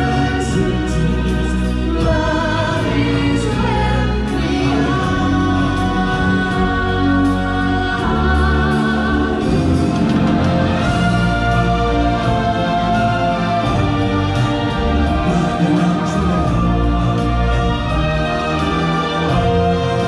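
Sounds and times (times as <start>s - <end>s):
band with steady bass: 0.0s - 20.0s
choir singing sustained notes: 0.0s - 20.0s.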